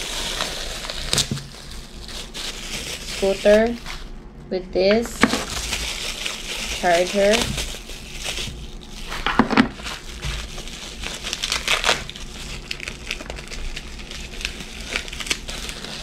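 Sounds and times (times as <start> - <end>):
bubble wrap crinkling: 0.0 - 4.2, 5.1 - 16.0.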